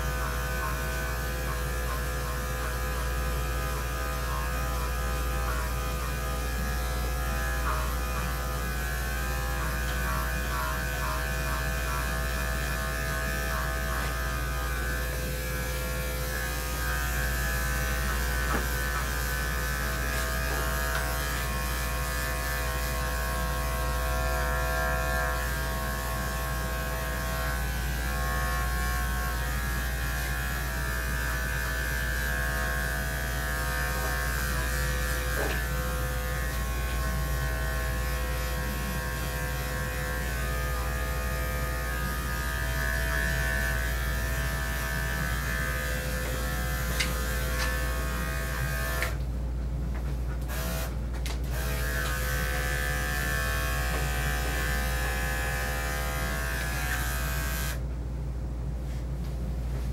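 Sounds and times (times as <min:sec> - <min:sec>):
electric clippers running: 0:00.0 - 0:49.3, 0:50.4 - 0:57.9.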